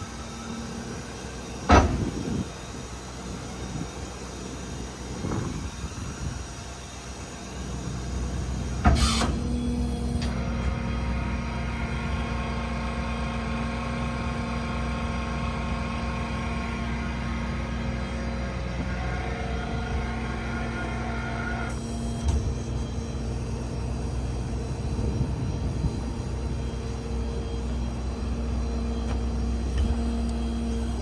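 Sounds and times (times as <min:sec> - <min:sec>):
diesel engine starting and idling: 0:00.0 - 0:31.0.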